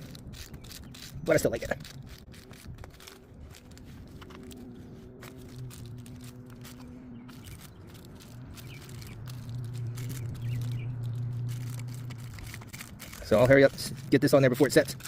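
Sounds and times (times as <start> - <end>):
steady low hum: 0.0 - 15.0
tape rustling and clicking: 0.0 - 15.0.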